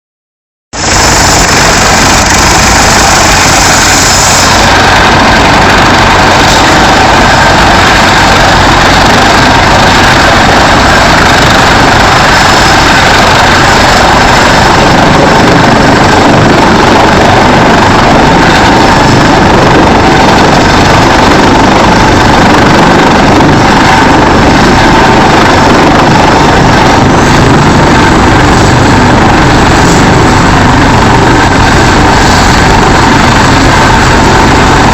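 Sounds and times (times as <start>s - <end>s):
helicopter engine and rotor: 0.7s - 34.9s.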